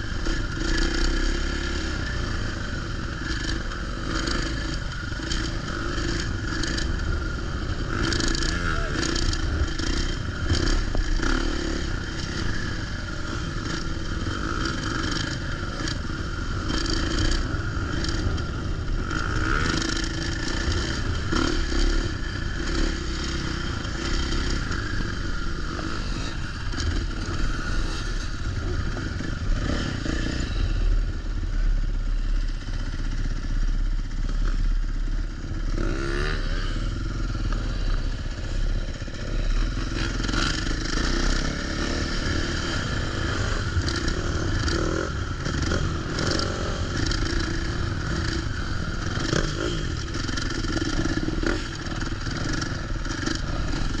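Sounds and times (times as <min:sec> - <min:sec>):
dirt bike engine revving: 0:00.0 - 0:33.4, 0:34.1 - 0:54.0.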